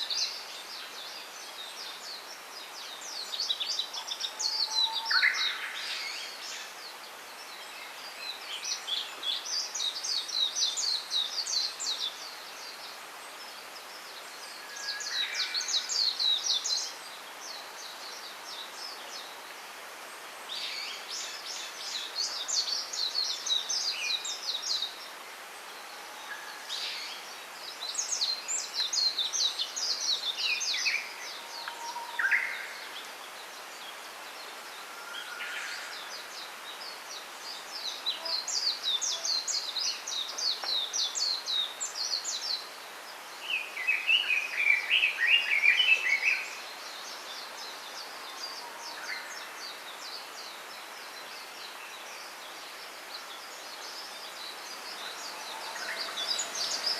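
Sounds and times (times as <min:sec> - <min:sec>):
steady background hiss: 0:00.0 - 0:56.9.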